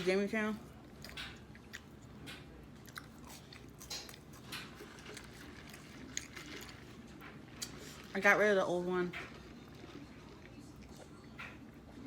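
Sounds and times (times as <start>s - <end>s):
person chewing food: 0.7s - 8.1s, 9.2s - 12.0s.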